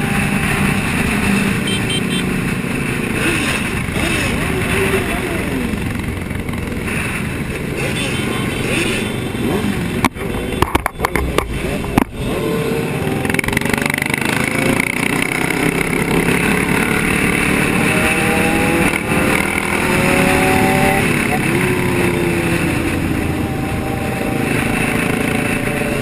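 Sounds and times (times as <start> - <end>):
motorcycle engines accelerating: 0.0 - 26.0
motorcycles riding at speed: 0.0 - 26.0.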